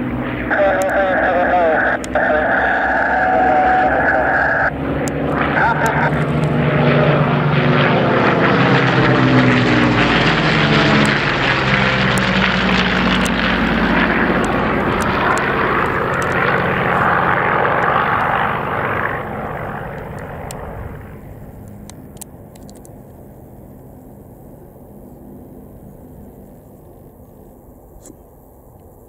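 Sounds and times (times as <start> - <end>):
aircraft engine running hard: 0.0 - 28.2.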